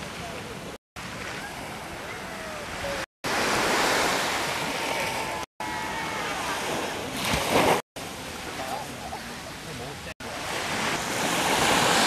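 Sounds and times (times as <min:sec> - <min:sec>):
small waves washing onto sand: 0:00.0 - 0:12.0.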